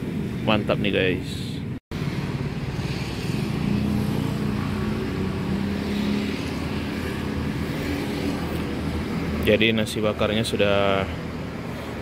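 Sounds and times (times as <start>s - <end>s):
road traffic rumble: 0.0s - 12.0s
vehicle engine hum: 0.0s - 12.0s.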